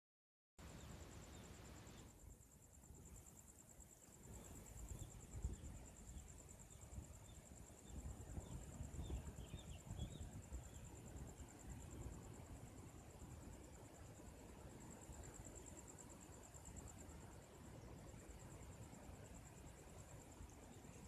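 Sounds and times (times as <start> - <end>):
high insect trill: 0.6 - 21.0.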